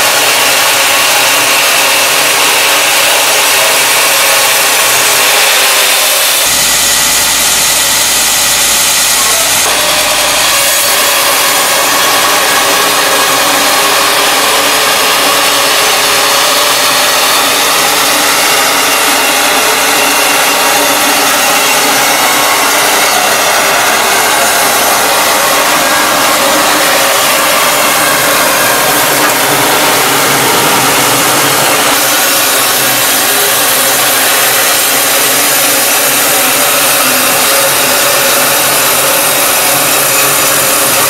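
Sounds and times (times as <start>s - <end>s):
band saw cutting log: 0.0s - 41.0s.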